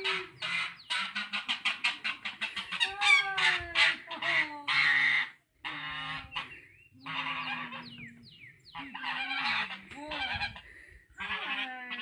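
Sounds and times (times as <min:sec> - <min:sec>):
goose honking: 0:00.0 - 0:10.6, 0:11.2 - 0:12.0.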